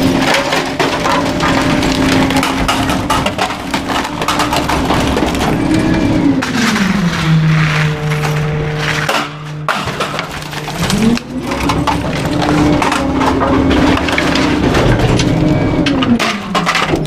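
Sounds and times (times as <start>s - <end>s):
wood cracking and splintering: 0.0s - 17.0s
hydraulic whine: 1.3s - 9.7s, 10.3s - 17.0s.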